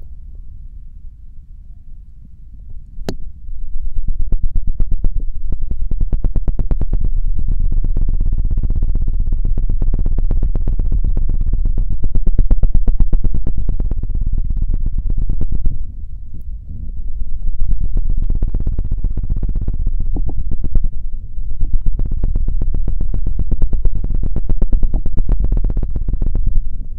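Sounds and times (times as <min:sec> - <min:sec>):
low rumble: 0:00.0 - 0:26.9.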